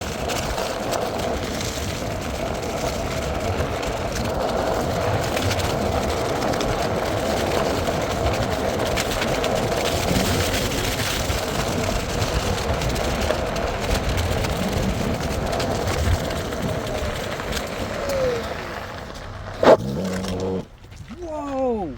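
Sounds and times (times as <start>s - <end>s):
low rolling rumble: 0.2s - 21.9s.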